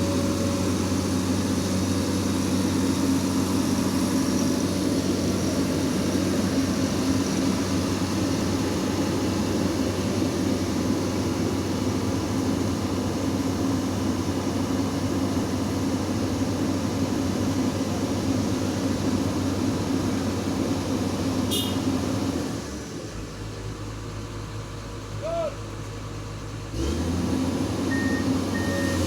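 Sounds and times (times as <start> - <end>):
excavator diesel engine: 0.0 - 29.0.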